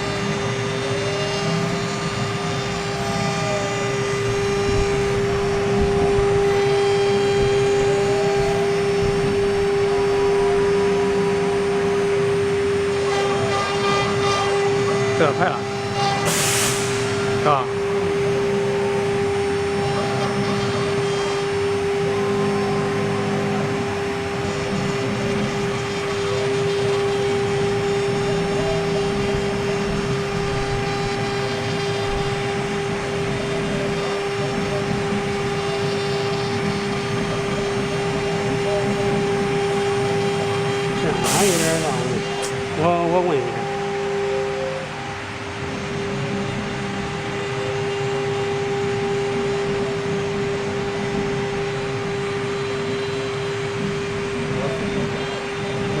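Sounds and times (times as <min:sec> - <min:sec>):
router bit cutting wood: 0:00.0 - 0:55.9
router spindle whining: 0:00.0 - 0:56.0.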